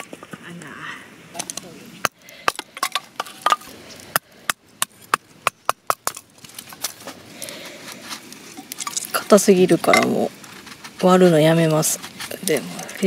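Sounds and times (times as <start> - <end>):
firewood cracking as it splits: 1.3 - 13.0.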